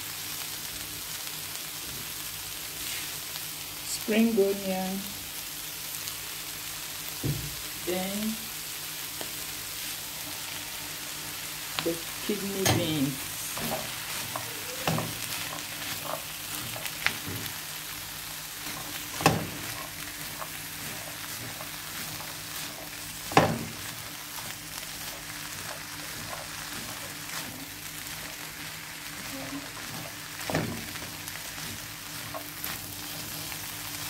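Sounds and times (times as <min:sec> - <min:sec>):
beans and vegetables sizzling: 0:00.0 - 0:34.0.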